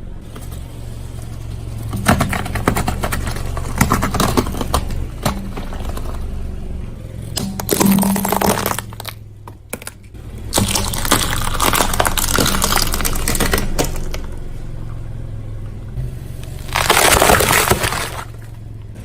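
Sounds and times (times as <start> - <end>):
car engine running low: 0.0 - 19.0
car tyre crushing brittle objects: 0.0 - 19.0.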